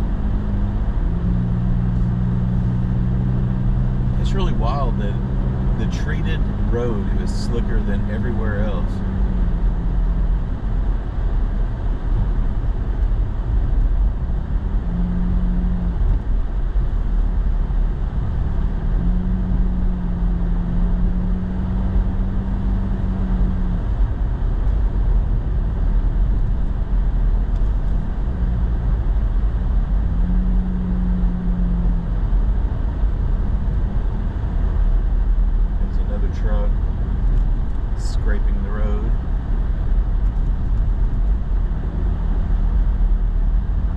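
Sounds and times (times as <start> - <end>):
low hum: 0.0 - 43.9
truck road and engine noise: 0.0 - 43.9.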